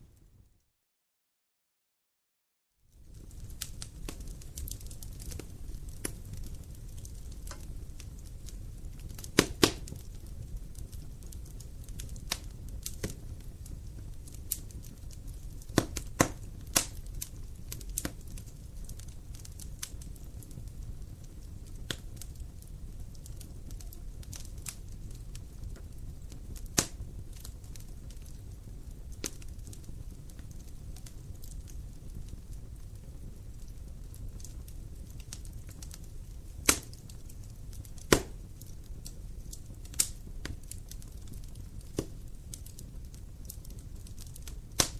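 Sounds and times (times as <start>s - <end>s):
wood fire crackling: 2.8s - 44.9s.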